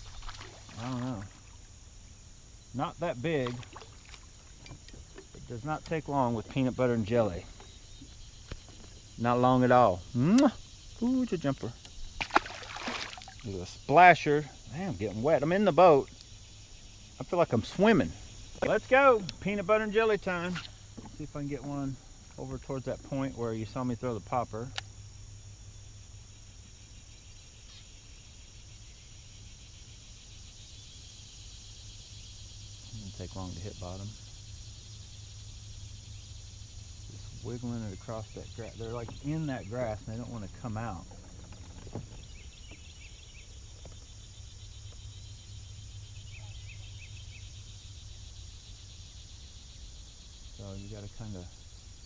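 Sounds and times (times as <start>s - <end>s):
faint low hum: 0.0s - 52.0s
insects chirping in chorus: 0.0s - 52.0s.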